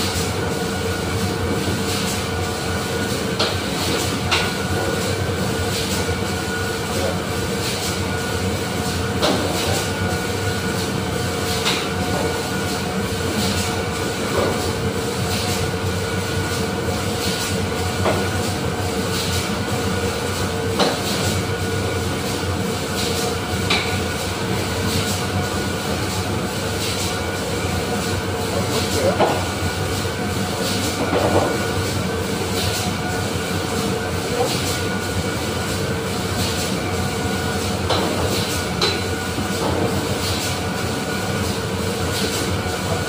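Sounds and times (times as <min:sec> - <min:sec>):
factory machinery drone: 0:00.0 - 0:43.0.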